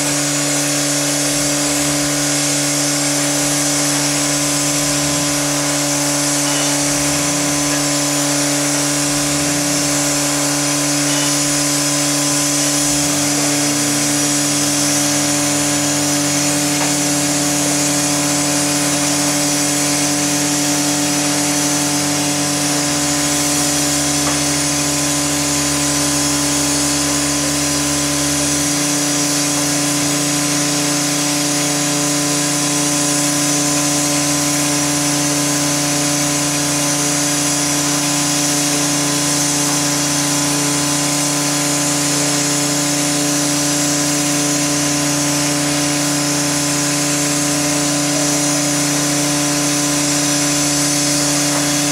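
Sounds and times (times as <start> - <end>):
low mechanical drone: 0.0 - 51.9
steam locomotive hissing: 0.0 - 51.9.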